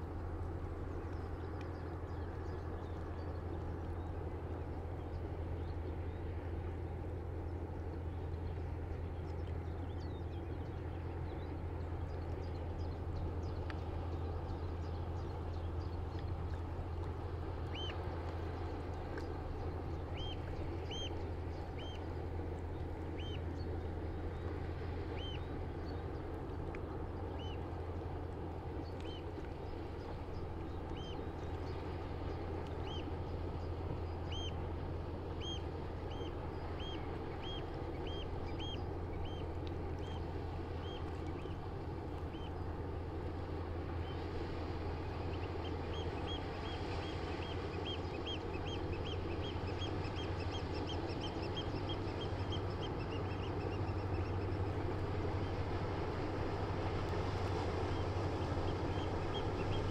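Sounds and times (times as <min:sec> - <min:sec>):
low steady drone: 0:00.0 - 0:59.9
water bird calling: 0:00.0 - 0:59.9
water lapping against breakwater: 0:08.6 - 0:59.9.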